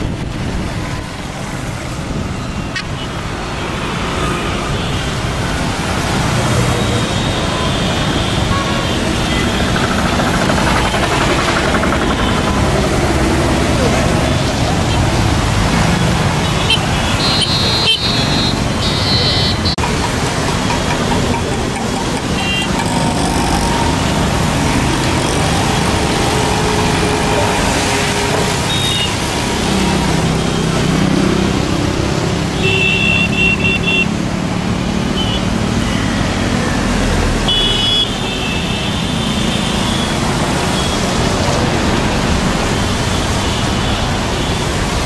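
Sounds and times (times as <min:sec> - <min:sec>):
traffic passing on wet road: 0:00.0 - 0:45.0.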